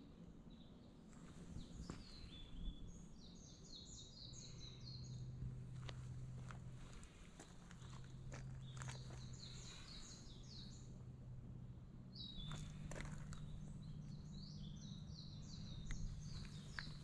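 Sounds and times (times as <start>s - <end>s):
songbird singing: 0.0s - 17.0s
steady low hum: 0.0s - 17.0s.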